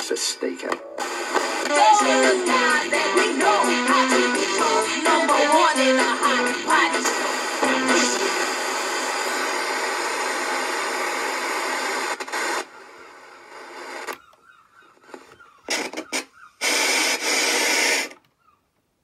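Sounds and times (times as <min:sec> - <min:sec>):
radio static hiss: 0:00.0 - 0:14.2, 0:15.1 - 0:18.2.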